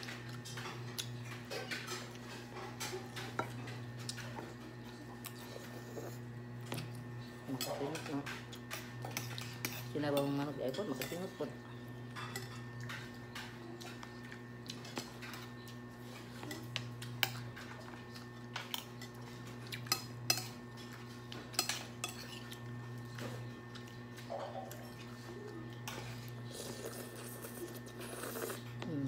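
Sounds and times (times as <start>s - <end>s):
cutlery clinking against bowls: 0.0s - 27.9s.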